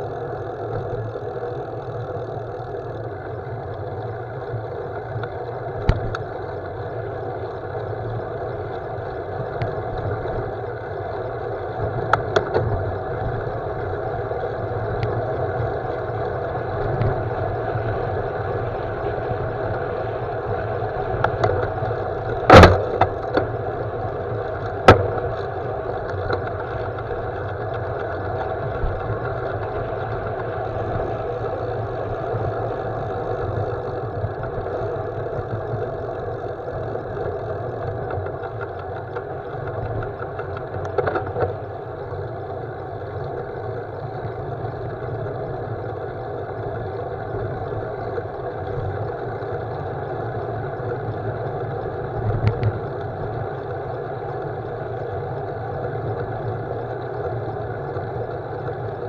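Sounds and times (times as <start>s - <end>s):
wind and tyres on rough tarmac: 0.0s - 59.0s.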